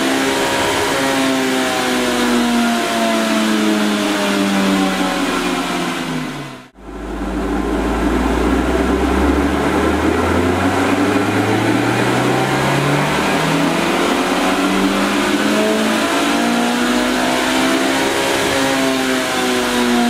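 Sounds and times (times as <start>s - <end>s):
engine revving at full throttle: 0.0s - 20.0s.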